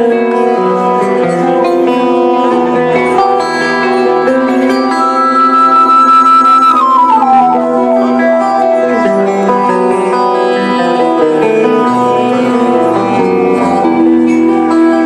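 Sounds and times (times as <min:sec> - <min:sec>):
electric guitar lead notes: 0:00.0 - 0:15.0
sustained keyboard chords: 0:00.0 - 0:15.0.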